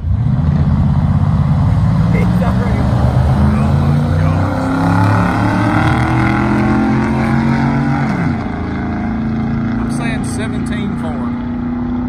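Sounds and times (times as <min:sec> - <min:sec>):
engines at full throttle: 0:00.0 - 0:12.0.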